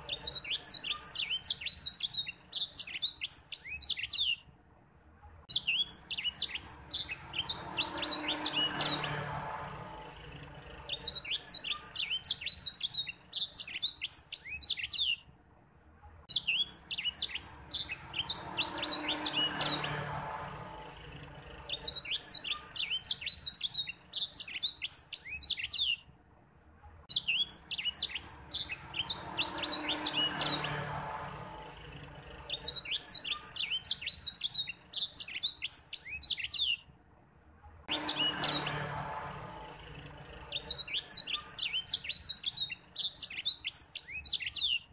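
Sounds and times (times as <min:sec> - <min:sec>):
bird singing high twittering notes: 0:00.0 - 0:04.4, 0:05.5 - 0:15.3, 0:16.3 - 0:26.1, 0:27.1 - 0:36.8, 0:37.9 - 0:44.9.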